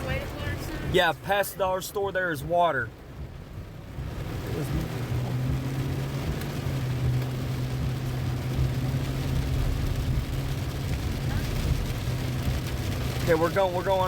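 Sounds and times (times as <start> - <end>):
car engine and road hum: 0.0 - 14.0
rain hissing on car: 0.0 - 14.0.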